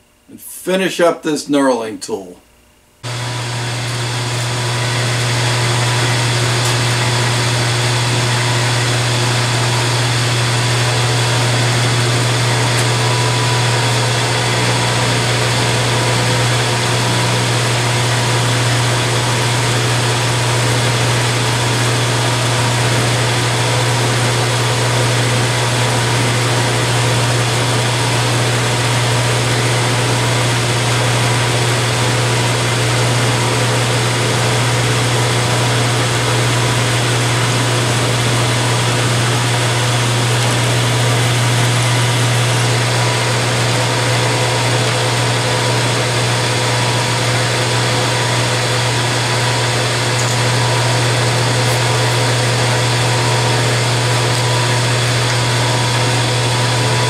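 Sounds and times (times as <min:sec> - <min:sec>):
milling machine motor hum: 0:03.0 - 0:57.0.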